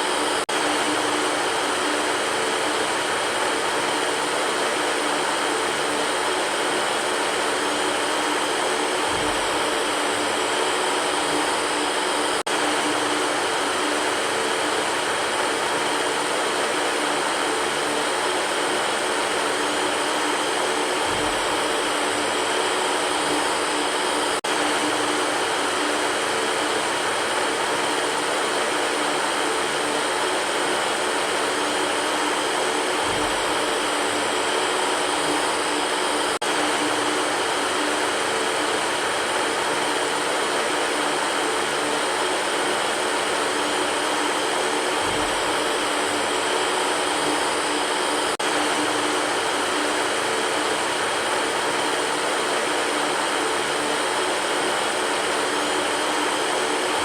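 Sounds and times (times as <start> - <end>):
electric fan whooshing: 0.0 - 57.0.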